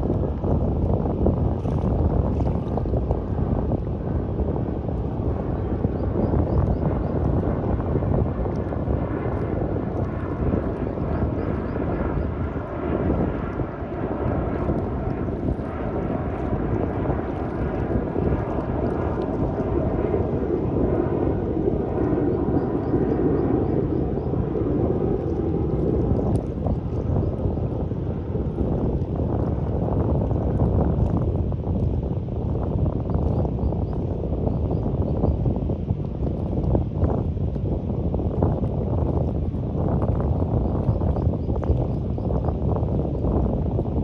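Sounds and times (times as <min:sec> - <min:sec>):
aircraft engine hum: 0:00.0 - 0:44.0
wind: 0:00.0 - 0:44.0.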